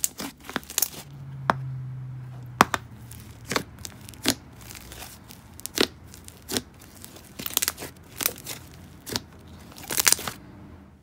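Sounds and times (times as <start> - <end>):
slime popping and crackling: 0.0 - 1.1, 2.6 - 10.4.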